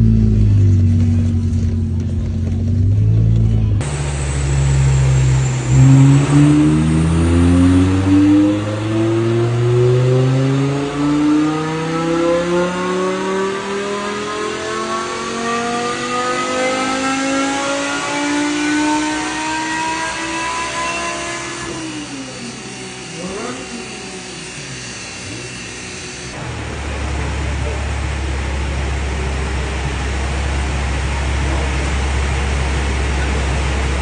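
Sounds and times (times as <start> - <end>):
car engine revving on dyno: 3.8 - 34.0.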